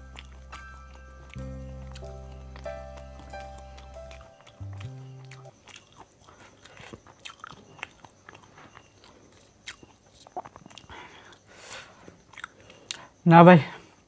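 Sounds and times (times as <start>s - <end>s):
person chewing: 0.0s - 13.1s.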